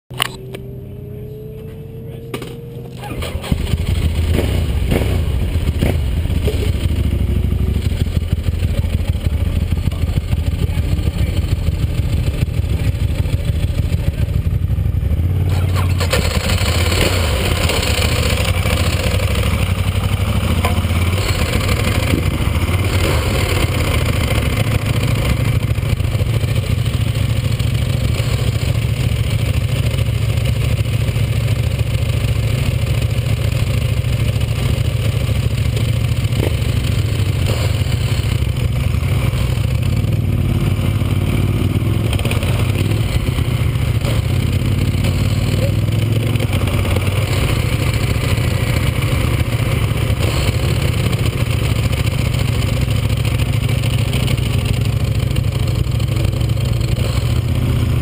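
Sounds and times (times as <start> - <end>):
motorcycle engine starting: 0.1 - 58.0
motorcycle engine idling: 0.2 - 58.0.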